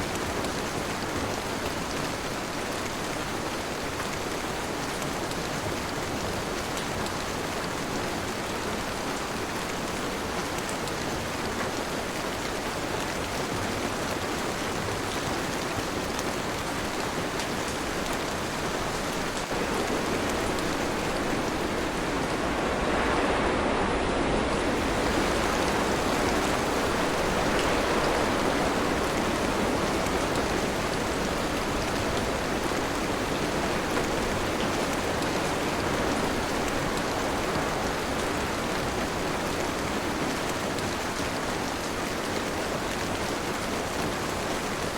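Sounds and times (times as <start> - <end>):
rain pouring: 0.0 - 44.9.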